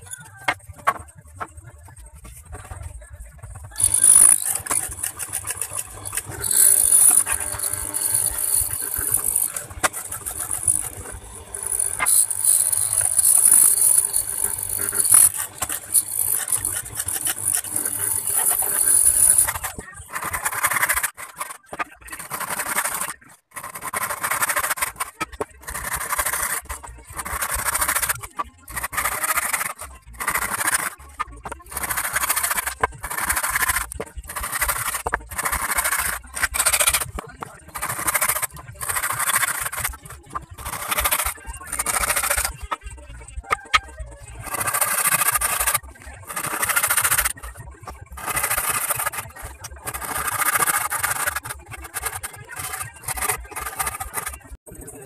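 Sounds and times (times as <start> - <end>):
wood planing machine running: 3.7 - 42.8, 44.4 - 54.6
hand saw cutting wood: 3.8 - 42.7, 44.4 - 47.4, 48.2 - 54.5.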